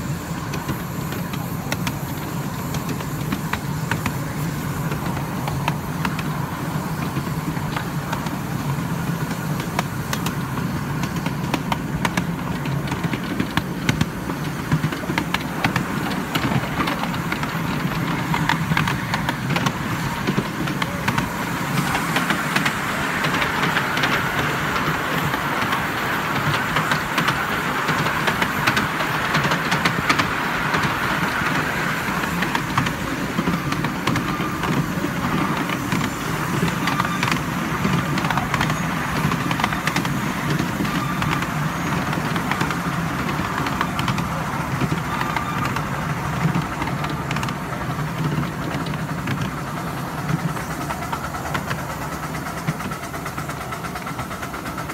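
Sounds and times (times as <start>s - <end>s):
miniature train wheels rumbling on rails: 0.0s - 54.9s.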